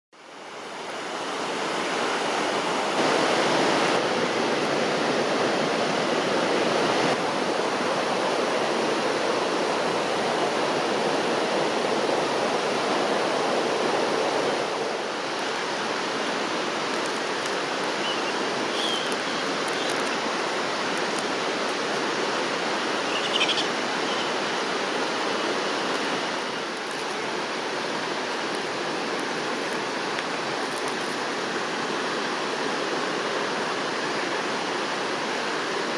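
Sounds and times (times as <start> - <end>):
rushing mountain stream: 0.2 - 35.9.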